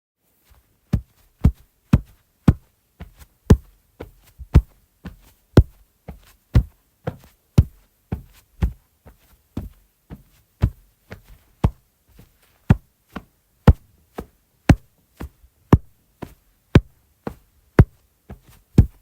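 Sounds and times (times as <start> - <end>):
footsteps walking: 0.4 - 19.0.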